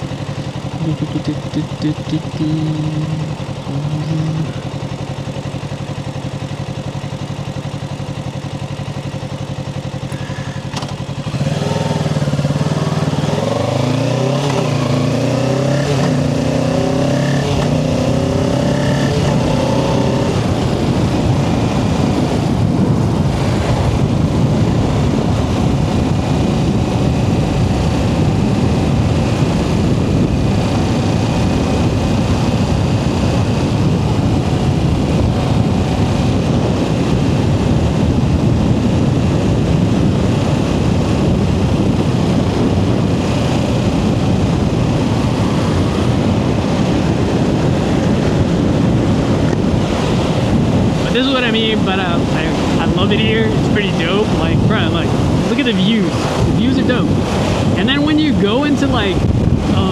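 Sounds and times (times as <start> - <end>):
motorcycle engine accelerating: 0.0 - 59.9
steady rushing noise: 10.2 - 59.9.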